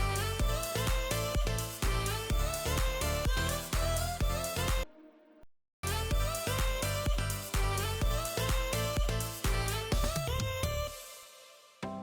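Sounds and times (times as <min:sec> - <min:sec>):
background music with beat: 0:00.0 - 0:04.8, 0:05.9 - 0:12.0.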